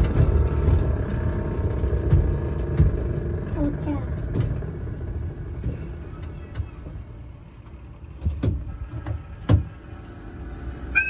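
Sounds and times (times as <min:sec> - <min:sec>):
mini train rumbling: 0:00.0 - 0:11.0.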